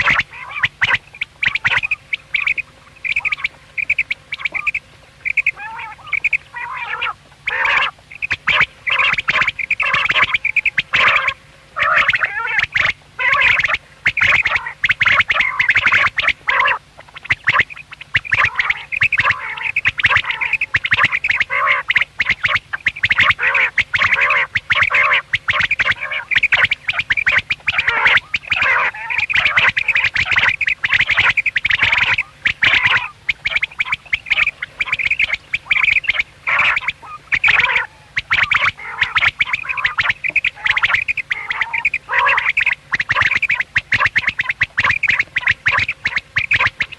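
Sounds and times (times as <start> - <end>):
quails calling: 0.0 - 46.9.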